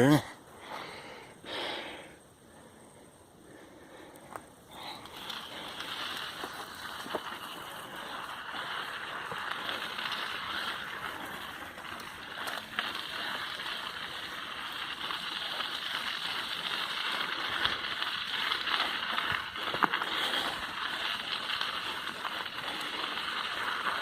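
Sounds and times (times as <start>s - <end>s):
bike tyres rolling on dirt: 0.0s - 24.0s
bike clicks and rattles: 4.2s - 24.0s.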